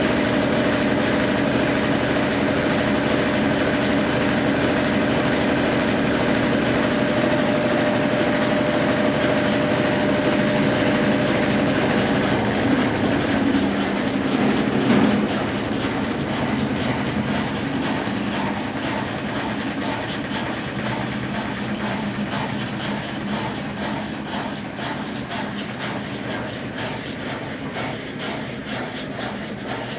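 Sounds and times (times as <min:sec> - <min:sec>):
washing machine running: 0:00.0 - 0:29.9.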